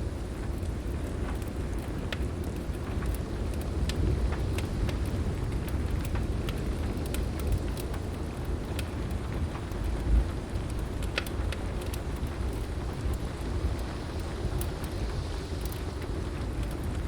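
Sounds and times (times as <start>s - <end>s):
low rumble of thunder: 0.0s - 17.0s
wood fire crackling and popping: 0.0s - 17.0s.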